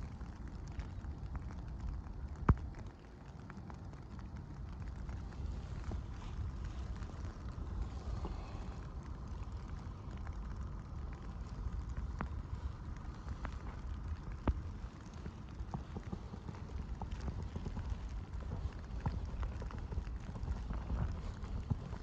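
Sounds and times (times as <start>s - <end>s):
sharp crackles: 0.0s - 22.0s
wind rumble on microphone: 0.0s - 22.0s.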